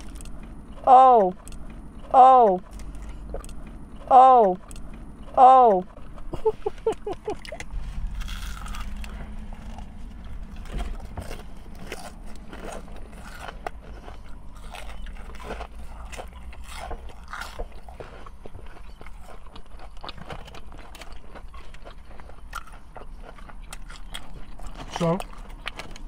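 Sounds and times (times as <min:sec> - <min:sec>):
crunching and chewing onion rings: 0:00.0 - 0:26.0.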